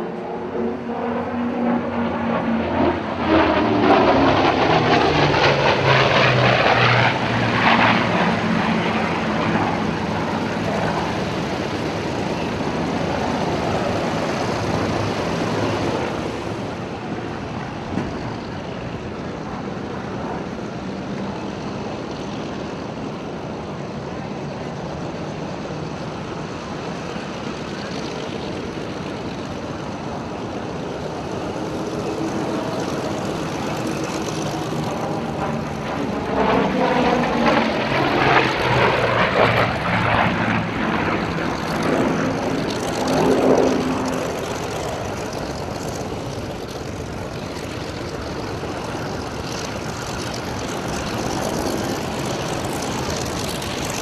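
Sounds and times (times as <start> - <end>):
propeller plane engines droning: 0.0 - 54.0.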